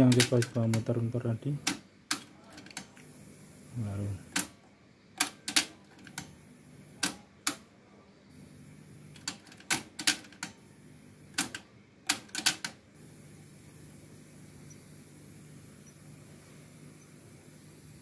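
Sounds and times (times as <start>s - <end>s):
tape hiss: 0.0s - 18.0s.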